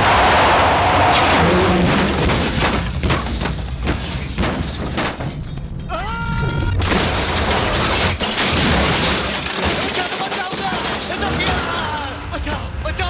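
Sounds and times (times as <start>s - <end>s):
glass shattering: 1.6s - 12.6s.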